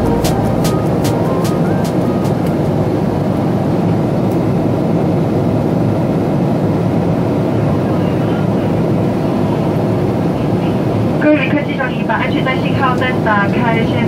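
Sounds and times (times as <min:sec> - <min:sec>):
airplane cabin engine noise: 0:00.0 - 0:14.0.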